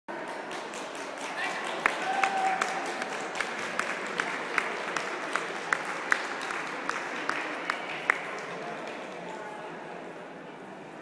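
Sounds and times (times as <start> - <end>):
rhythmic sharp claps: 0.1 - 9.2
spectators applauding: 0.1 - 9.2.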